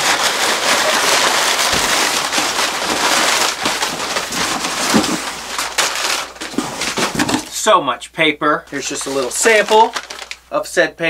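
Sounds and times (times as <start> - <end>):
packing paper crinkling: 0.0 - 7.6, 8.7 - 10.6.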